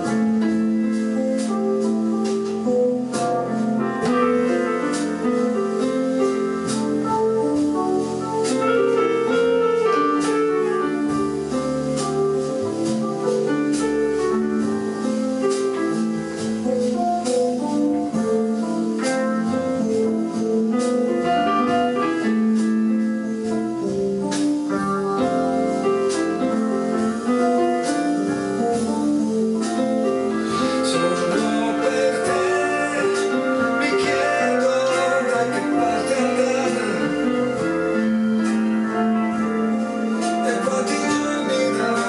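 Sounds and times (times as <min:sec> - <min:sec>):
piano keyboard music: 0:00.0 - 0:42.0.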